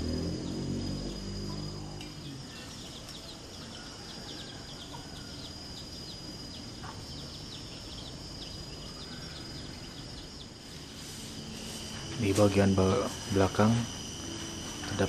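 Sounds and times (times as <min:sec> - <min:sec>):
birds chirping: 0:00.0 - 0:15.0
insect drone: 0:00.0 - 0:15.0.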